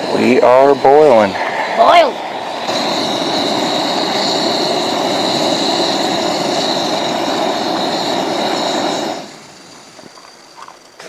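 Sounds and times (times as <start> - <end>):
stove burner hissing: 0.0 - 11.0.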